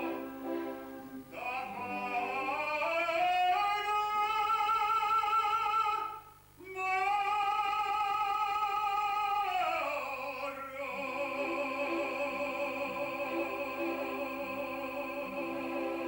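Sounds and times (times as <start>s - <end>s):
male opera singer with vibrato: 1.3s - 16.0s.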